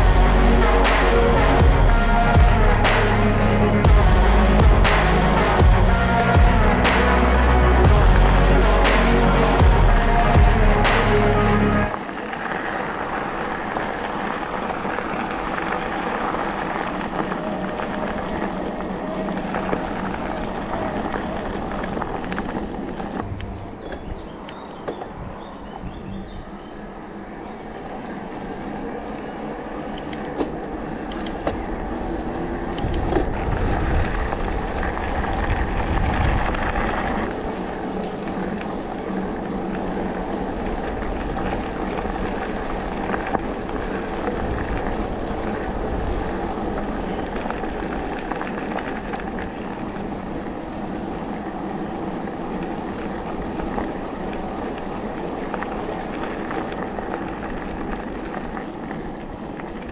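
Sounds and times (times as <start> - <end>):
bike tyres rolling on forest path: 0.0 - 10.7, 11.5 - 59.9
low rumble: 0.0 - 59.9.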